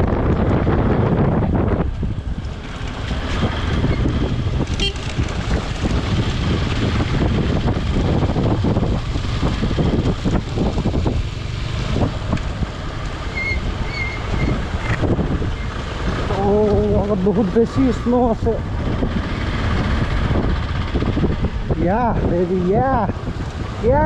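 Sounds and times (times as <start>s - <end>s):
vehicle rumble: 0.0s - 24.0s
wind buffeting microphone: 0.0s - 24.0s.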